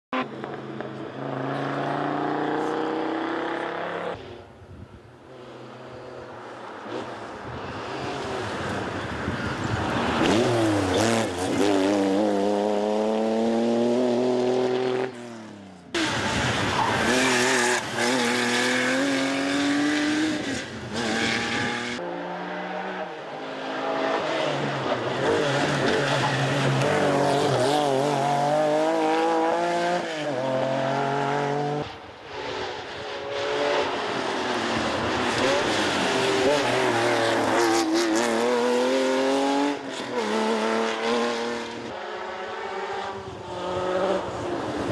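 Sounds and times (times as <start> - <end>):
rally cars passing at speed: 5.2 - 44.9.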